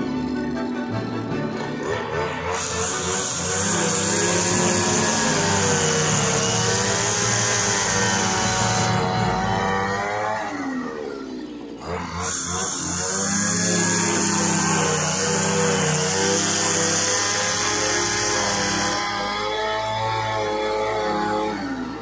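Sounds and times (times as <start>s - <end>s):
brush cutter engine high revs: 0.0s - 22.0s.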